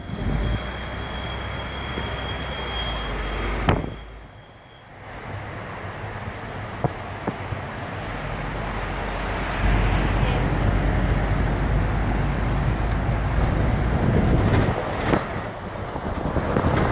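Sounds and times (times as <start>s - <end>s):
bus engine and road rumble: 0.0s - 16.9s.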